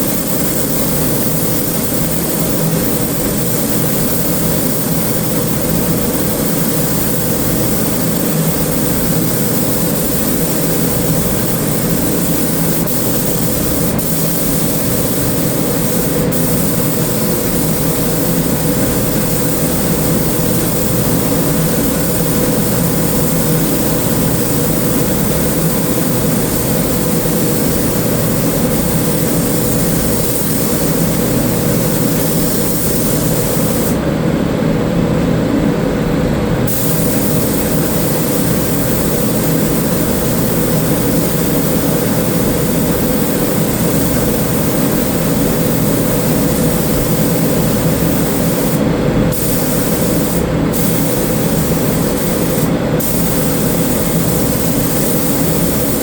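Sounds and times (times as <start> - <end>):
paint spray gun hissing: 0.0 - 34.0, 36.7 - 56.0.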